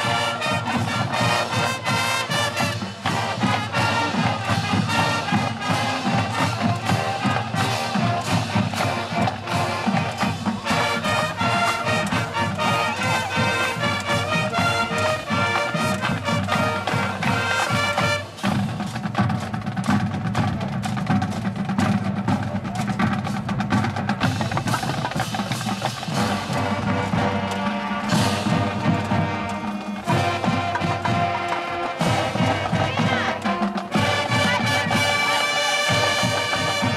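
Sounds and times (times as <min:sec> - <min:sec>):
drum strikes: 0:00.0 - 0:36.9
marching band brass chords: 0:00.0 - 0:36.9.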